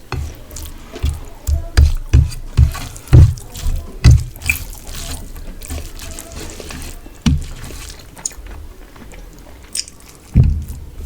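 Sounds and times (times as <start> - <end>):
wet chewing of food: 0.0 - 11.0.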